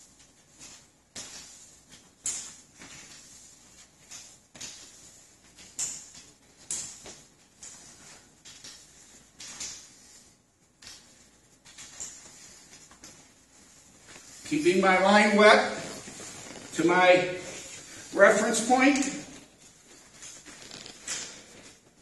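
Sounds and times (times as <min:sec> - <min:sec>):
mop swishing over hard floor: 0:00.0 - 0:22.0.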